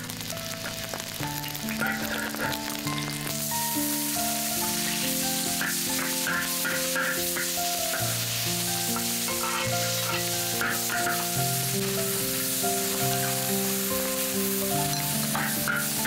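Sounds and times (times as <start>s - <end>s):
garlic sizzling in hot oil: 0.0s - 16.0s
soft background music: 0.0s - 16.0s.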